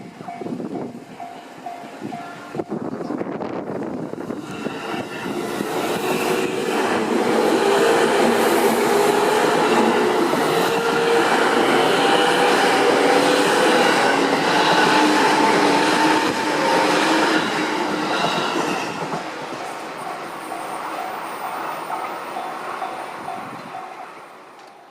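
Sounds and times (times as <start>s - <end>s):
electric train passing: 0.0s - 24.9s.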